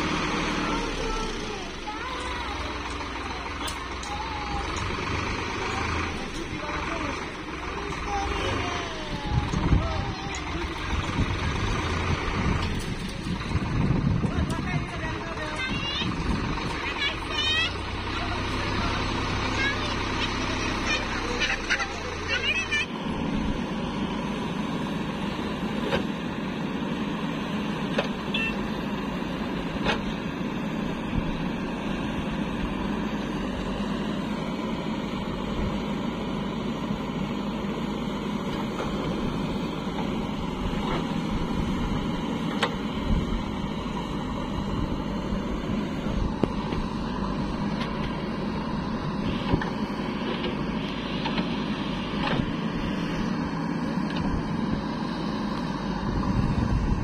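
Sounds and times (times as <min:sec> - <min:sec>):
backhoe diesel engine running: 0:00.0 - 0:57.0
tractor diesel engine running: 0:00.0 - 0:57.0.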